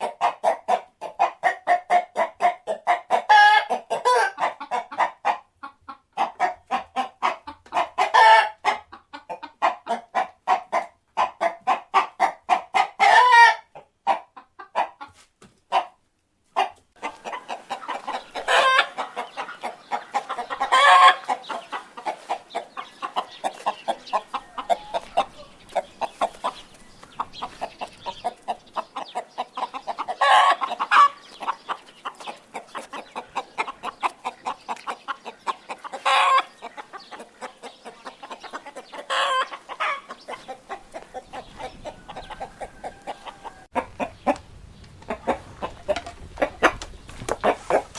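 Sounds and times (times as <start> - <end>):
chicken squawks: 0.0 - 16.0, 16.6 - 25.6, 27.2 - 44.4
chickens clucking: 0.0 - 47.9.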